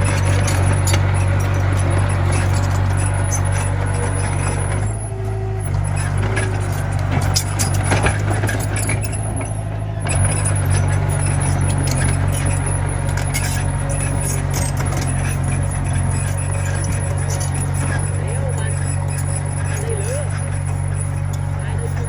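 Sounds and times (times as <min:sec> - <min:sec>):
diesel engine running: 0:00.0 - 0:22.0
metallic clicks and clanks: 0:00.0 - 0:22.0.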